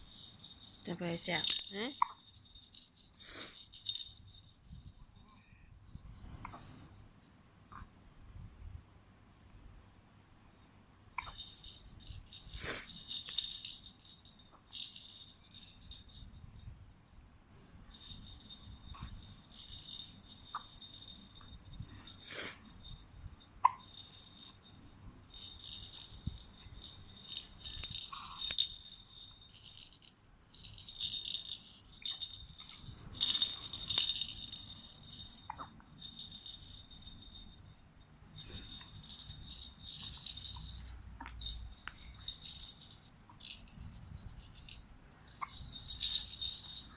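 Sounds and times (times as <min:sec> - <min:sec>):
toy rattle jingling: 0:00.0 - 0:06.1, 0:11.2 - 0:16.7, 0:17.9 - 0:46.9.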